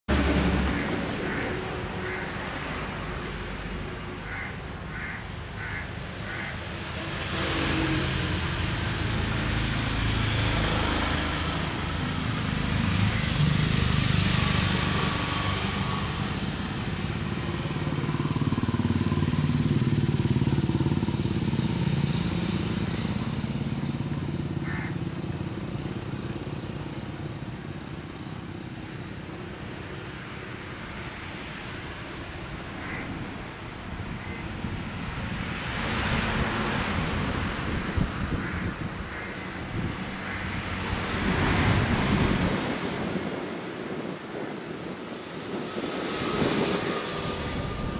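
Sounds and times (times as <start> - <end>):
vehicle engine passing: 0.1 - 30.2, 34.6 - 44.1.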